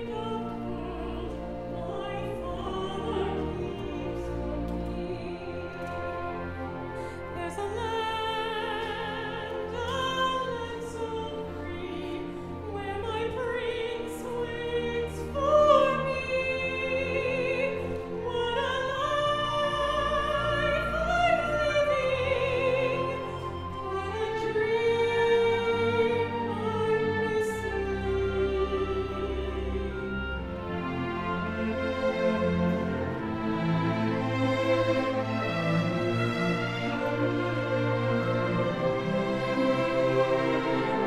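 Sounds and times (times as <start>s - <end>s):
symphony orchestra accompaniment: 0.0s - 41.0s.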